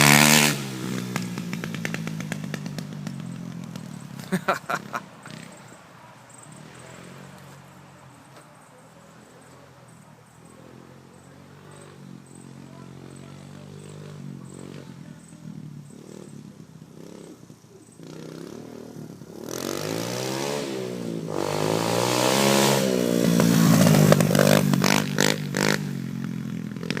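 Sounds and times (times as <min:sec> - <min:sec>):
dirt bike engine revving: 0:00.0 - 0:08.2, 0:10.4 - 0:27.0.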